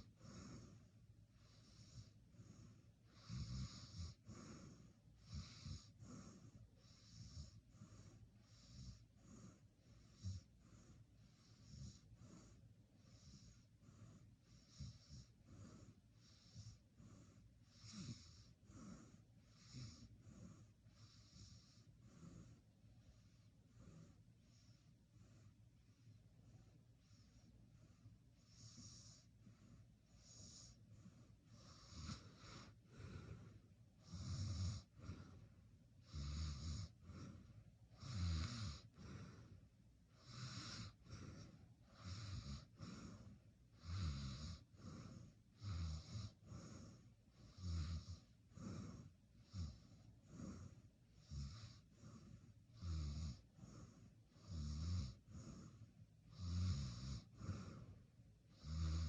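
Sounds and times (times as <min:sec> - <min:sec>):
person snoring: 0:00.0 - 0:22.6, 0:31.5 - 0:35.4, 0:36.0 - 0:57.9, 0:58.5 - 0:59.0.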